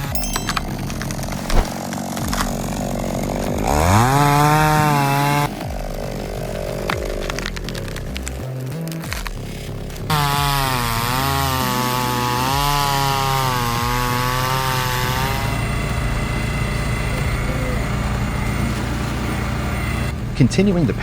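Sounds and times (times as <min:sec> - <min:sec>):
chainsaw cutting wood: 0:00.2 - 0:17.5.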